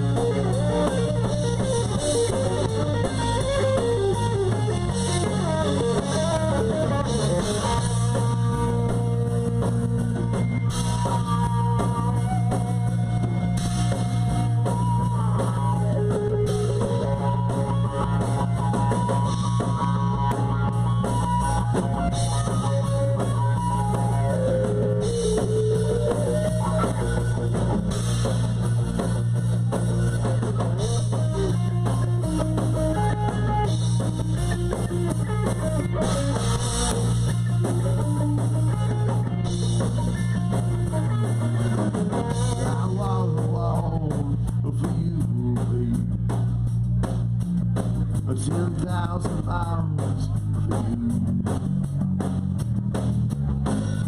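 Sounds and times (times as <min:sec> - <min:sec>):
bass line: 0:00.0 - 0:54.0
drum kit: 0:00.0 - 0:54.0
electric guitar: 0:00.0 - 0:54.0.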